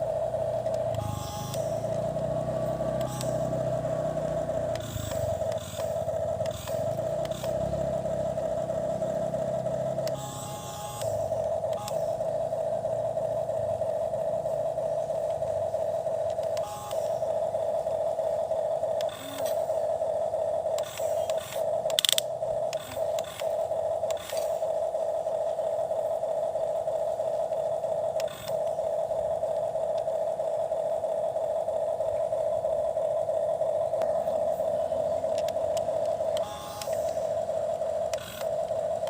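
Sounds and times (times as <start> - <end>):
toy mechanism clicks: 0.0 - 39.0
toy motor and gearbox whining: 0.0 - 39.0.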